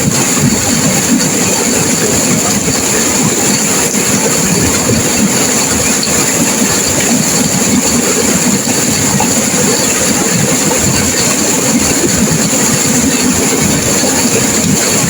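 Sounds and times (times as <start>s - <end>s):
river water rushing through rapids: 0.0s - 15.0s.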